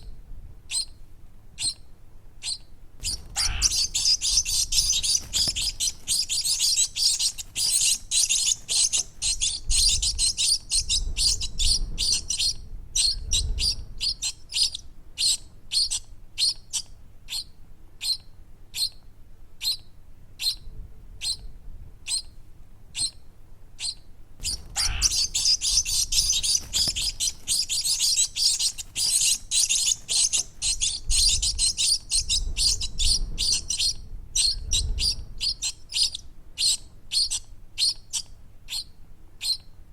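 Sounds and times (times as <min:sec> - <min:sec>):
baby birds chirping: 0:00.7 - 0:01.0, 0:01.6 - 0:01.8, 0:02.4 - 0:19.0, 0:19.6 - 0:19.8, 0:20.4 - 0:20.6, 0:22.9 - 0:23.2, 0:23.8 - 0:39.7.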